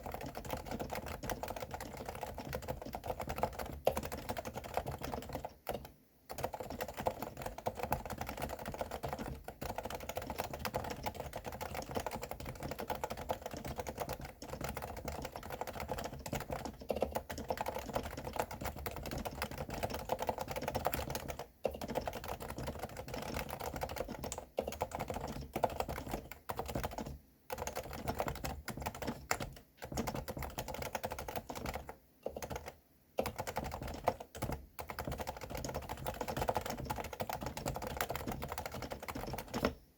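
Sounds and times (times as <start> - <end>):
fast typing on keyboard: 0.0 - 39.8.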